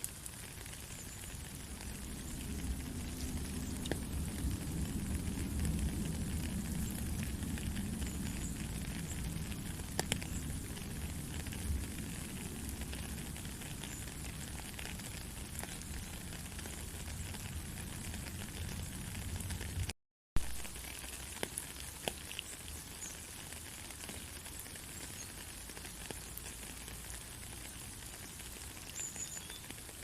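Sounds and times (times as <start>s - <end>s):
rain drop ticks: 0.0s - 30.0s
steady rain: 0.0s - 30.0s.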